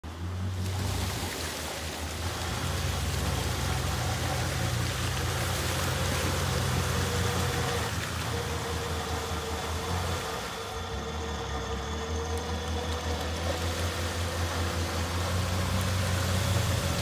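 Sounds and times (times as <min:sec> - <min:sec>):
vehicle engine idling: 0:00.0 - 0:17.0
thin steady whine: 0:00.1 - 0:17.0.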